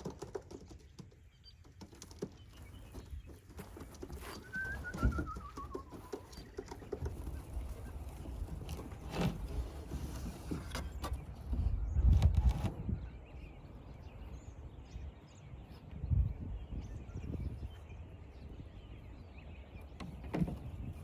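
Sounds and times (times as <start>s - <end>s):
wind buffeting microphone: 2.7s - 21.0s.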